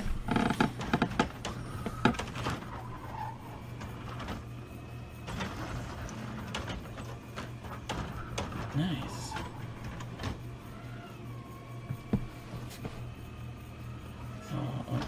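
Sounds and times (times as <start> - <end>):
mechanical whir: 0.0 - 15.0
truck arm lifting bin: 0.0 - 15.0.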